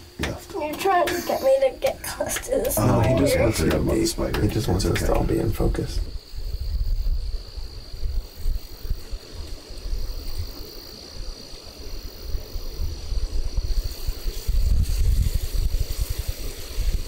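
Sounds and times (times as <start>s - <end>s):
crickets singing: 0.0s - 17.0s
wind rumbling on microphone: 0.0s - 17.0s.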